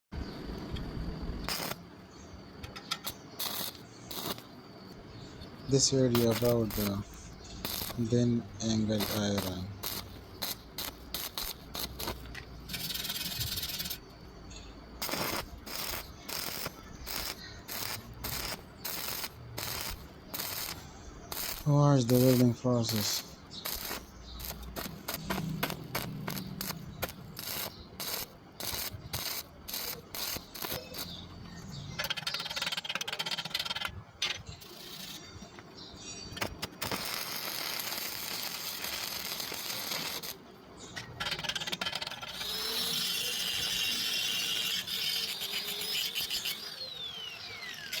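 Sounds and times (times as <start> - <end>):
electric arc welding crackle: 1.4 - 48.0.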